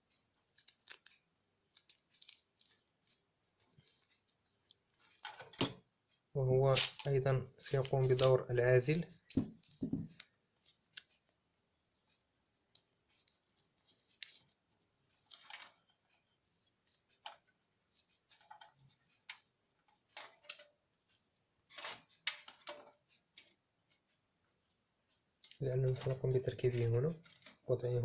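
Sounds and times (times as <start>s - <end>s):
adhesive tape clicks and rustles: 0.1s - 8.4s, 9.2s - 11.4s, 12.7s - 24.2s, 25.4s - 27.7s.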